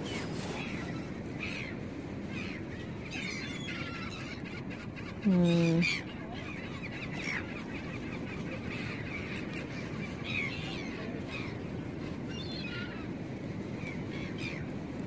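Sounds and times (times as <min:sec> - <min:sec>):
seagulls calling: 0:00.0 - 0:14.8
sea: 0:00.0 - 0:15.0
wind: 0:00.0 - 0:15.0.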